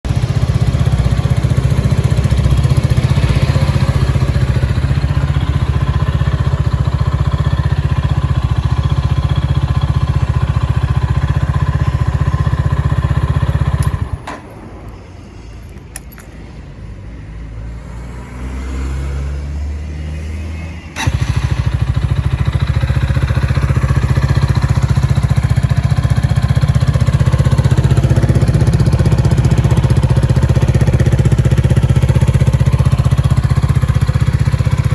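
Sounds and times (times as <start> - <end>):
motorcycle engine running loudly: 0.1 - 14.1, 21.0 - 34.9.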